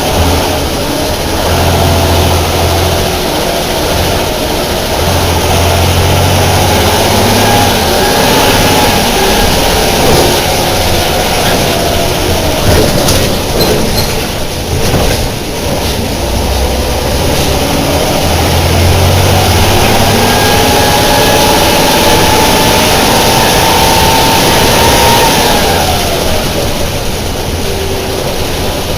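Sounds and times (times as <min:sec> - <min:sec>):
diesel bus engine under load: 0:00.0 - 0:28.9.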